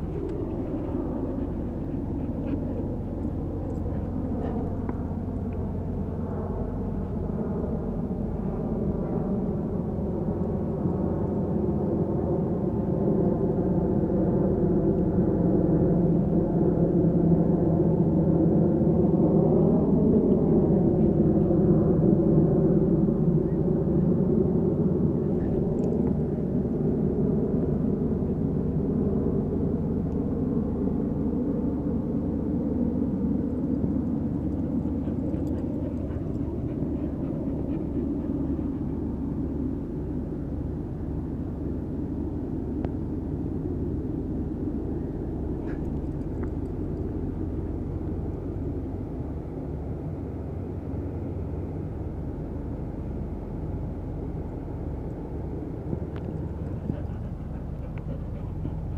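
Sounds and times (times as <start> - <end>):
distant engine droning: 0.0 - 58.9.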